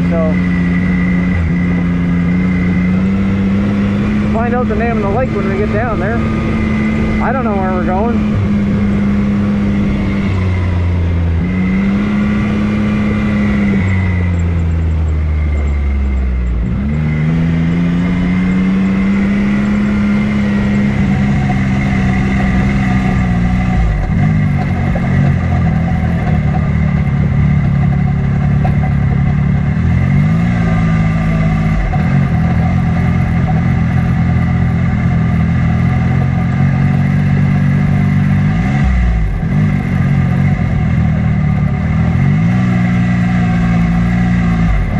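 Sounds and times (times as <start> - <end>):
off-road vehicle engine running: 0.0 - 44.9.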